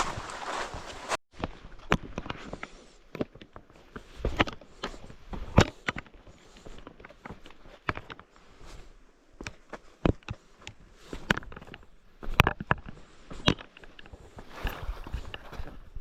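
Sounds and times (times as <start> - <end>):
footsteps walking downhill: 0.0 - 16.0.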